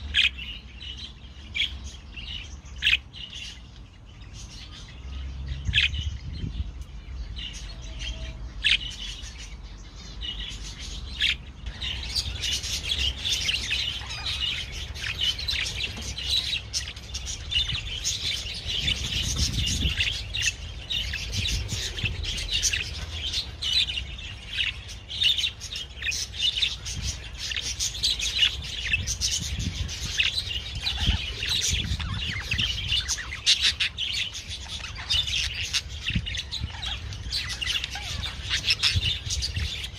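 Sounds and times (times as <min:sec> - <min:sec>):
budgerigar warbling and chattering: 0:07.4 - 0:39.9.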